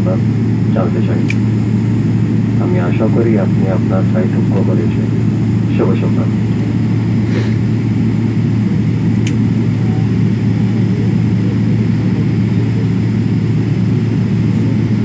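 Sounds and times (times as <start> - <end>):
jet airliner rumble inside cabin: 0.0 - 15.0.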